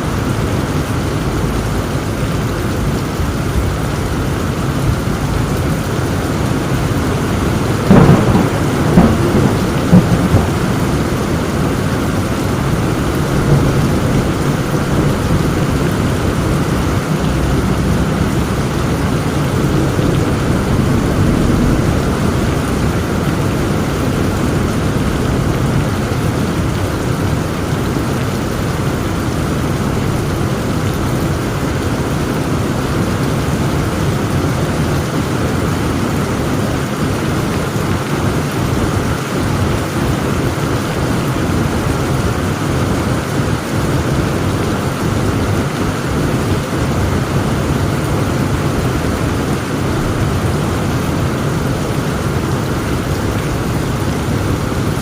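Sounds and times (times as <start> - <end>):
constant low rumble: 0.0 - 55.0
heavy rain downpour: 0.0 - 55.0.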